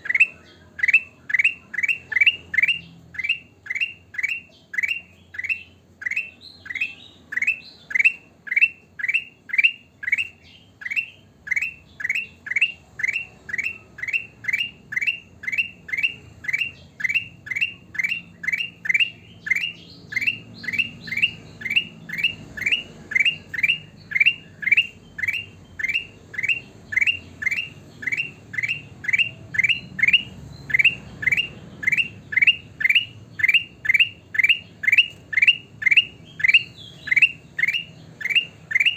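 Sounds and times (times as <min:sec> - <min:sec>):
bulbul calling: 0:00.0 - 0:38.9.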